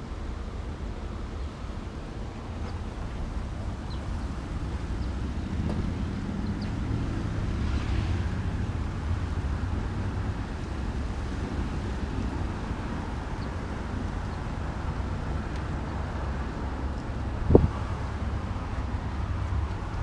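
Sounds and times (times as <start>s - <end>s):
wind buffeting microphone: 2.4s - 20.0s.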